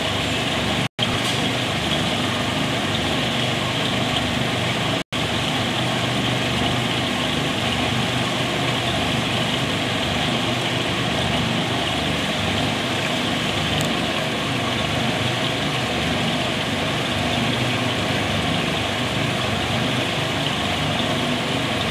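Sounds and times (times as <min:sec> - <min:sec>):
machine humming with low drone: 0:00.0 - 0:21.9.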